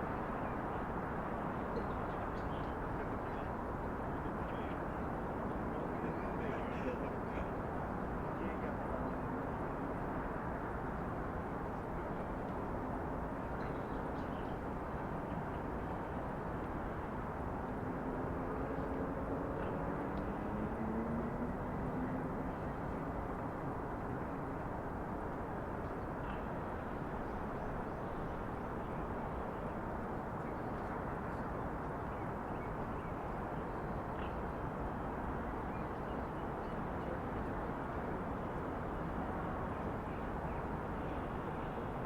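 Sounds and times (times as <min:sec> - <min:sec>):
distant traffic hum: 0:00.0 - 0:42.0.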